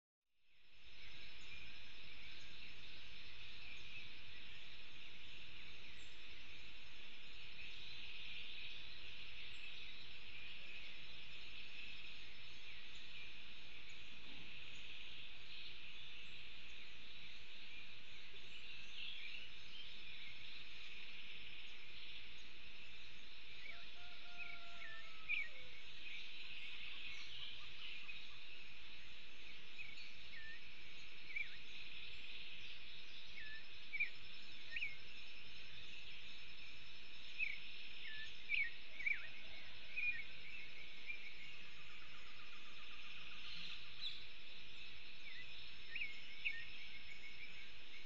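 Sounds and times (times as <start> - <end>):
bird chirps: 0.4 - 48.0
insect whine: 0.5 - 48.0
steady high hiss: 0.5 - 48.0.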